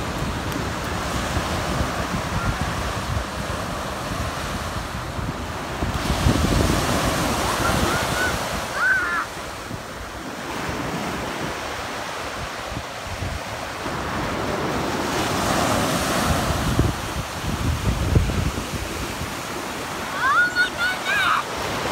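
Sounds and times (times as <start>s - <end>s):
small waves breaking on shore: 0.0s - 21.9s
wind buffeting microphone: 0.0s - 21.9s.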